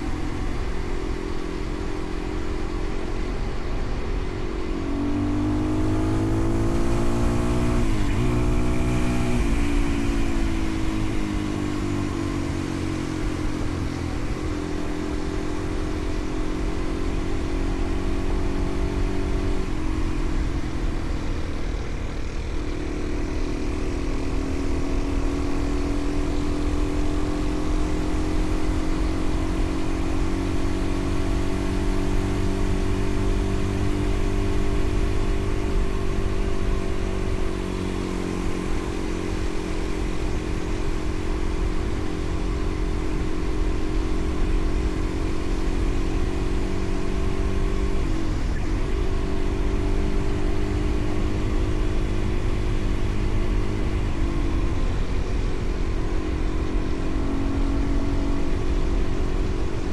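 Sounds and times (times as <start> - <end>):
vehicle engine running: 0.0 - 59.9
wind and road rumble: 0.0 - 59.9.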